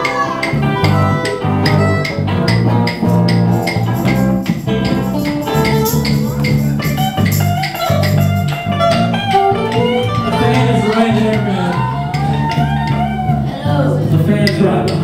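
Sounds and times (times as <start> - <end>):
amplified electric guitar playing: 0.0 - 15.0
repeating low bass line: 0.0 - 15.0.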